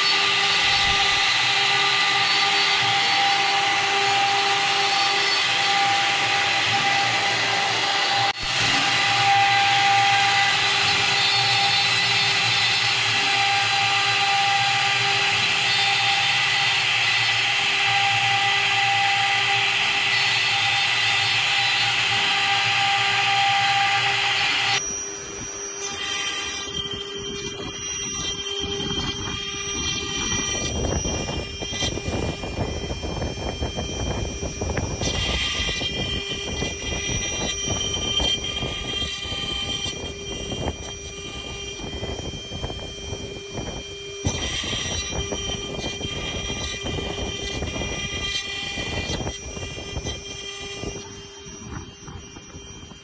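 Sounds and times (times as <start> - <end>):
router spindle whine: 0.0 - 53.0.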